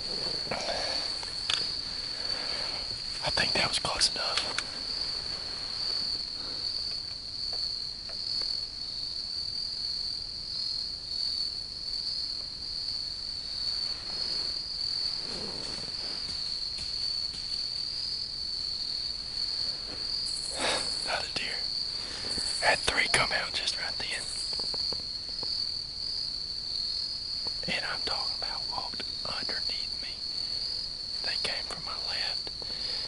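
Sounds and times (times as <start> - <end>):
insect chorus trilling: 0.0 - 33.0.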